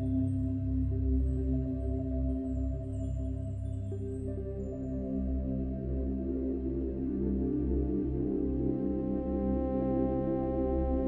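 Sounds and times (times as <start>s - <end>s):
ambient music with low tones: 0.0s - 11.0s.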